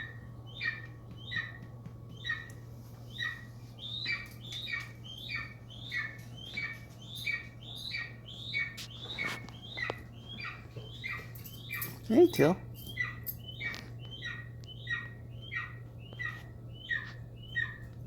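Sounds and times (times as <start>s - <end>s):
high-pitched squeaky chirps: 0.0s - 17.9s
steady low hum: 0.0s - 18.0s.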